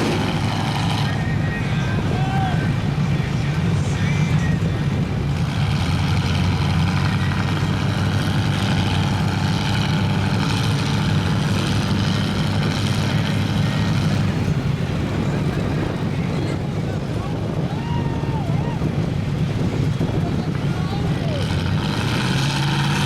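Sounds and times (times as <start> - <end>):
heavy vehicle engine droning: 0.0 - 23.0.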